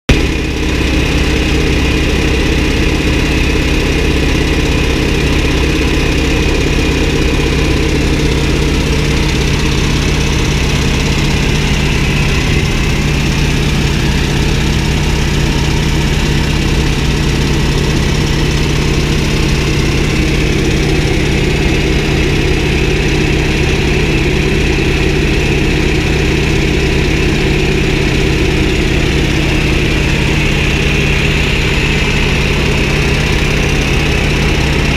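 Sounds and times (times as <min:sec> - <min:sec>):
propeller aircraft engine drone: 0:00.1 - 0:34.9.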